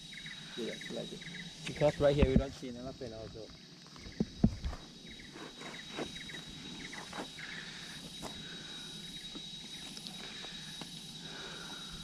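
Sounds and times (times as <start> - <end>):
insect chirps: 0.0 - 12.0
insects high-pitched whine: 0.0 - 12.0.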